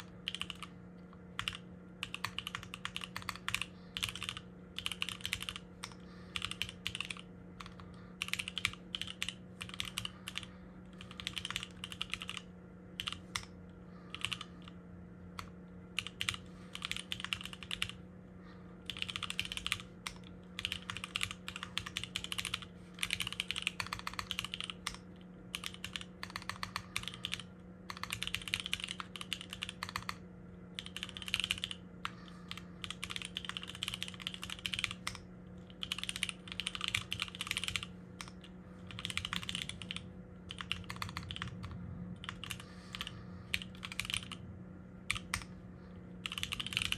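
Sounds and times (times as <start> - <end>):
typing on mechanical keyboard: 0.0 - 0.7, 1.4 - 13.5, 14.1 - 14.7, 15.4 - 18.0, 18.9 - 30.2, 30.8 - 44.4, 45.1 - 45.5, 46.2 - 46.9.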